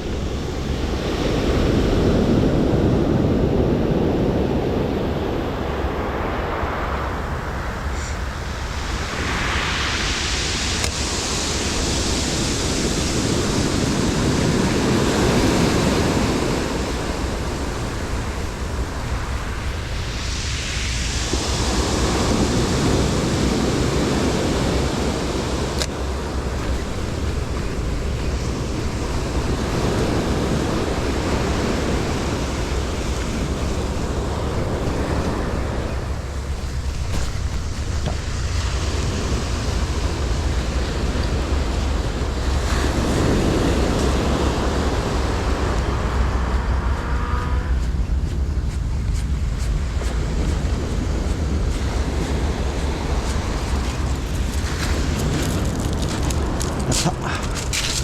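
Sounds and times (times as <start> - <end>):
ocean surf breaking on beach: 0.0 - 58.0
wind rumble on microphone: 0.0 - 58.0.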